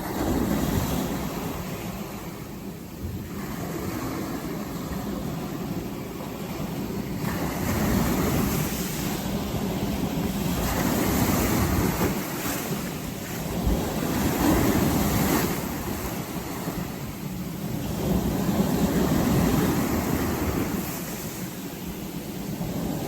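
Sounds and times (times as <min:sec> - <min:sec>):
sea waves breaking on beach: 0:00.0 - 0:23.0.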